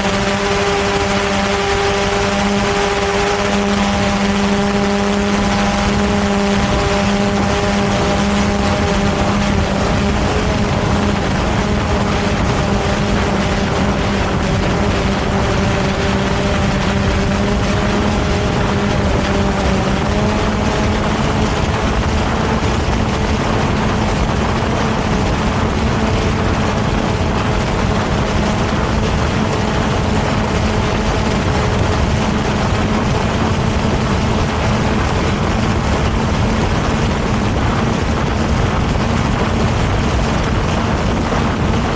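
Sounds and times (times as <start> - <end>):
rushing air: 0.0 - 41.9.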